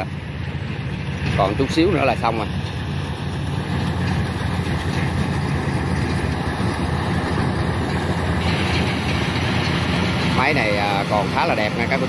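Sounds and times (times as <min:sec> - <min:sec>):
diesel engine drone: 0:00.0 - 0:12.0
harvester machinery hum: 0:00.0 - 0:12.0.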